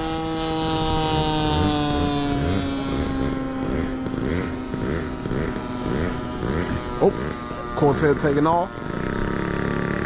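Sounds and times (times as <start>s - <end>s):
model airplane engine droning: 0.0s - 10.0s
wavering engine sound: 0.0s - 10.0s.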